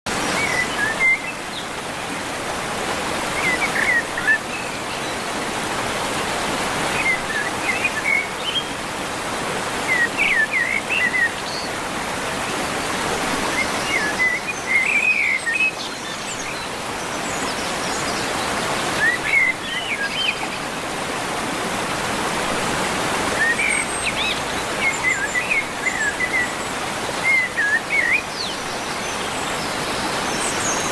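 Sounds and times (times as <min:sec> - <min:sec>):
running water: 0:00.1 - 0:30.9.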